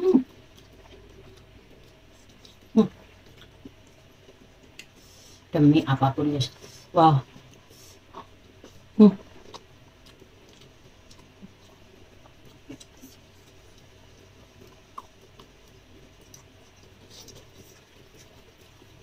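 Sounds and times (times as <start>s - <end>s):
quiet chewing: 0.2s - 5.5s, 6.5s - 19.0s.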